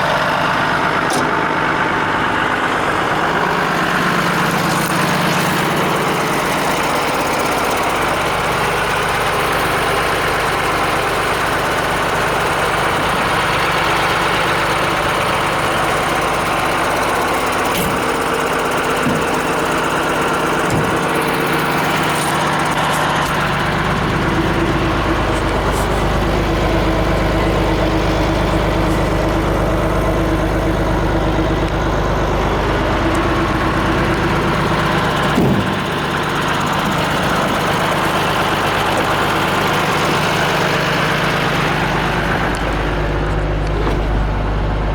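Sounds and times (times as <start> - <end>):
diesel truck engine running: 0.0 - 44.9.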